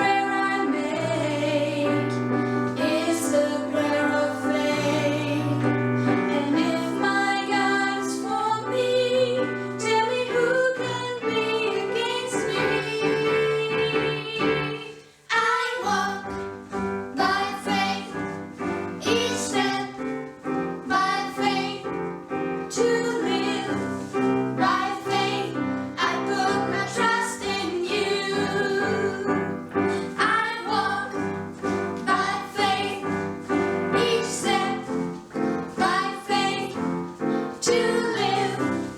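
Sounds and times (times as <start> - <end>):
voices singing with piano: 0.0 - 38.9.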